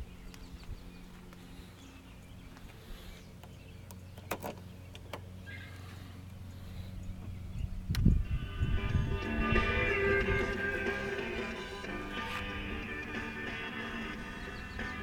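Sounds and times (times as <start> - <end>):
scooter engine idling: 0.1 - 7.5, 8.2 - 15.0.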